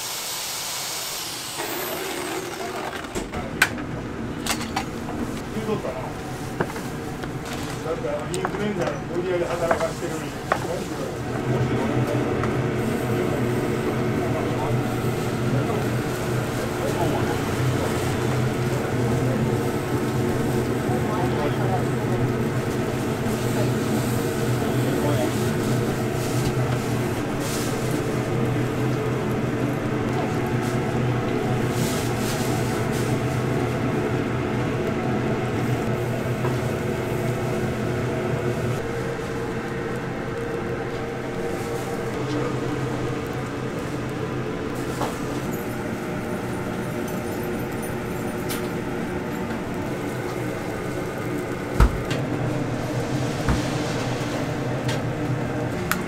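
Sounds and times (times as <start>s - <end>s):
low hum of kitchen machinery: 1.2s - 56.0s.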